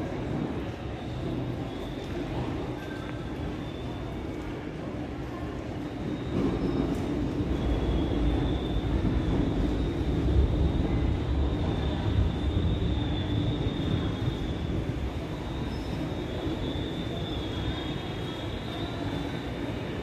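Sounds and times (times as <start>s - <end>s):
train running gear rumble: 0.0s - 20.0s.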